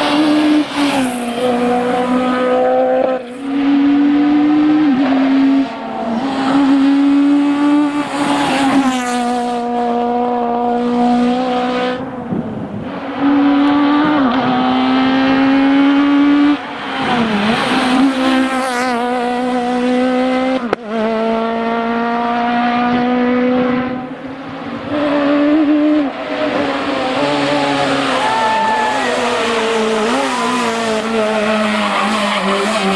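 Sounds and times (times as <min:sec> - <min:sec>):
rally car engine at full throttle: 0:00.0 - 0:32.9.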